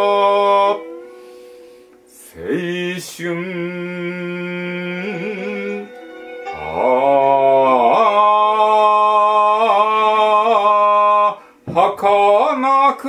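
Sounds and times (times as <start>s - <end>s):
solo voice chanting: 0.0s - 13.0s.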